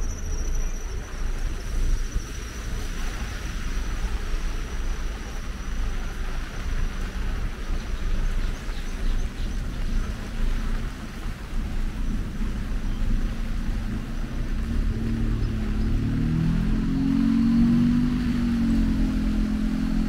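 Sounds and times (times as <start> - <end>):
cars in slow traffic: 0.0 - 20.0
low rumble: 0.0 - 20.0
heavy rain on wet street: 0.9 - 20.0.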